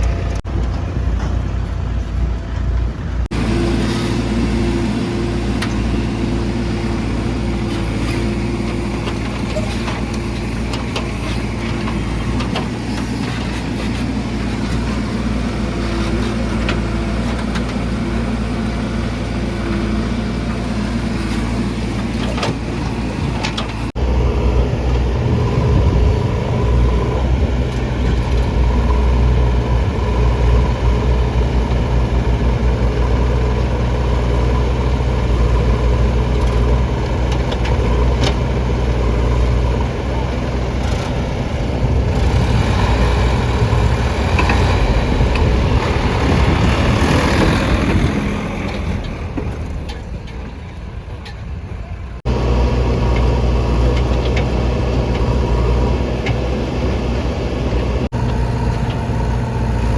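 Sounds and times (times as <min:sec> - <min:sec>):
diesel engines running: 0:00.0 - 0:59.9
loud deep engine: 0:00.0 - 0:59.9.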